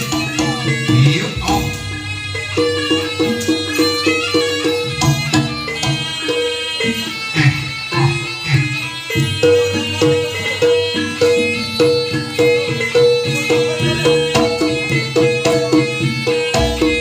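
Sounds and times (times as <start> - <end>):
metallophones playing fast melody: 0.0 - 17.0.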